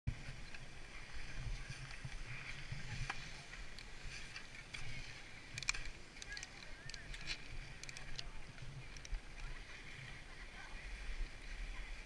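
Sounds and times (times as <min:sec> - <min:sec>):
skis scraping over snow: 0:00.1 - 0:12.0.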